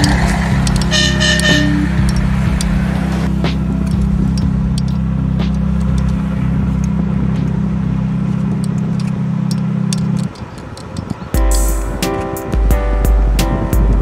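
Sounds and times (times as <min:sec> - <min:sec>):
music: 0:00.0 - 0:10.3, 0:11.4 - 0:14.0
diesel locomotive idling: 0:00.0 - 0:12.0.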